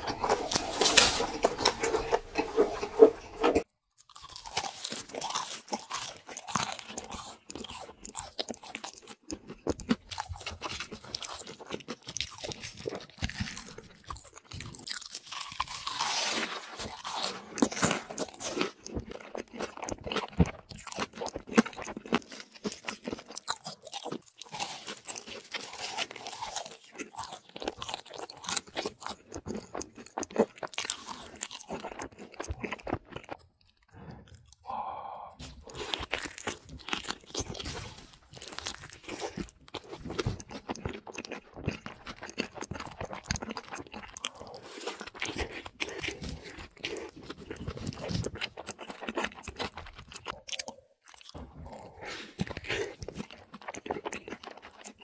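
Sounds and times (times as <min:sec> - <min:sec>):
crunching and chewing food: 0:00.0 - 0:55.0.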